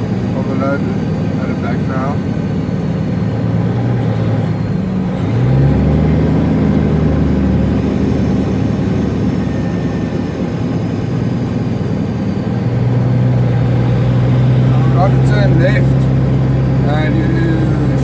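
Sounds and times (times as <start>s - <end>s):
diesel truck engine under load: 0.0s - 18.0s.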